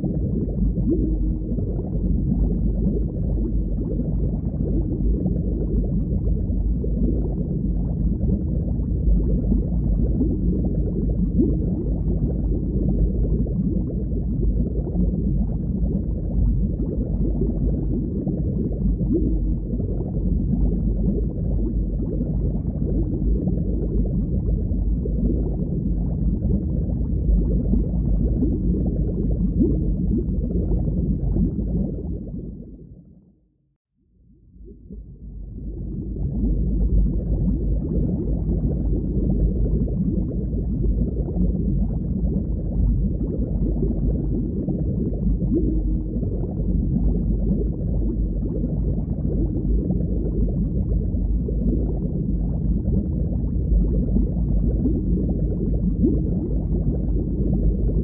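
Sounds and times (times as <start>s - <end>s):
underwater water rumble: 0.0s - 58.0s.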